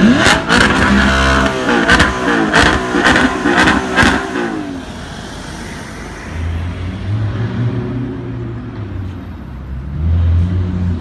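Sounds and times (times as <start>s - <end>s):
car engine low hum: 0.0s - 11.0s
street traffic: 0.0s - 11.0s.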